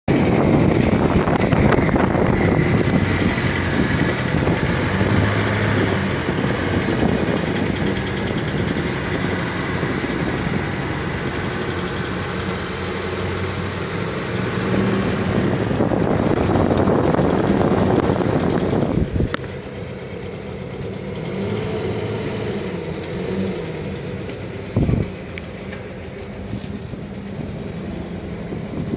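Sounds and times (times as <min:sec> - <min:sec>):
car engine running: 0:00.1 - 0:28.9.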